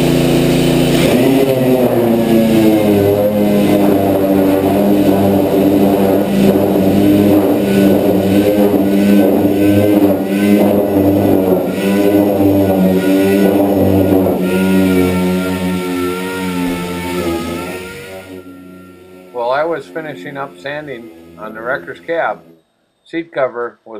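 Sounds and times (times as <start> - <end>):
orbital sander on sheet metal: 0.0 - 22.6.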